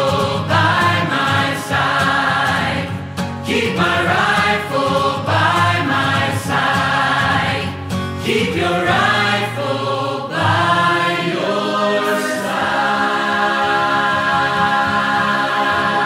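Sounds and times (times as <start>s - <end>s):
choir singing long held notes: 0.0s - 16.0s.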